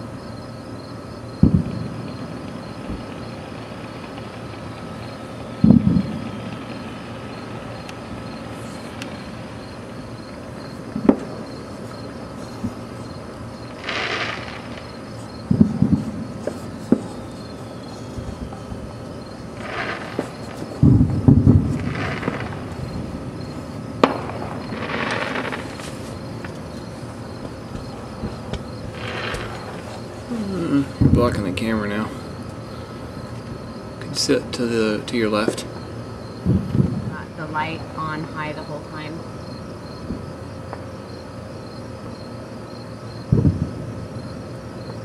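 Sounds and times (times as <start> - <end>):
crickets chirping: 0.0 - 45.0
outdoor background hum: 0.0 - 45.0
distant fireworks booming: 0.6 - 38.9, 43.2 - 45.0.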